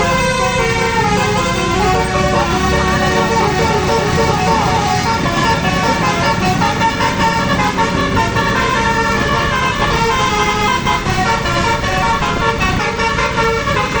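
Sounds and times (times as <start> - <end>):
bus engine running: 0.0 - 14.0
multi-tone air horn melody: 0.0 - 14.0.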